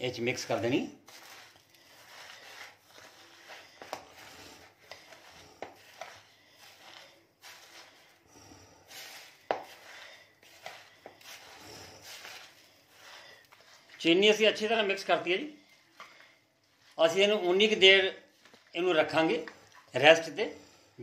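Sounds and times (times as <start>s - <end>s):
wet rustling and gritty crunching: 0.0s - 20.8s.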